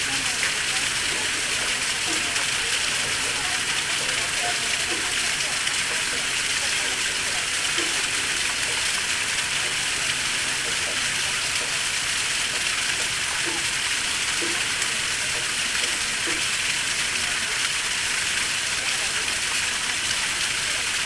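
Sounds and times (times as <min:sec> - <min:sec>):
small waterfall splashing: 0:00.0 - 0:21.0.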